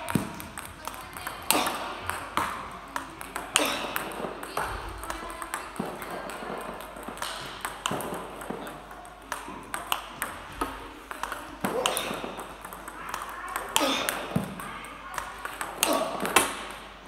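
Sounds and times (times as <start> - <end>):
table tennis ball hits: 0.0 - 17.0.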